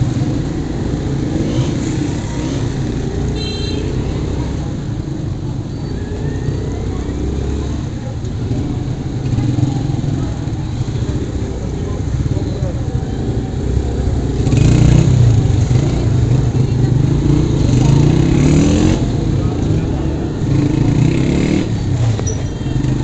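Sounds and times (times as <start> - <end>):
other motorbikes: 0.0 - 23.0
passers-by: 0.0 - 23.0.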